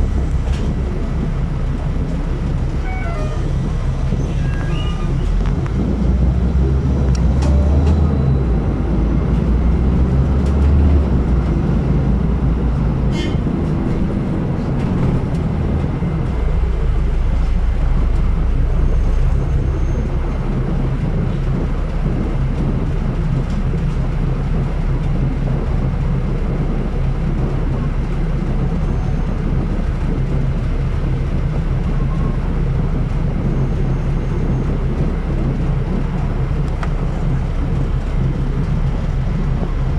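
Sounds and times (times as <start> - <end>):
bus engine and road drone: 0.0 - 39.9.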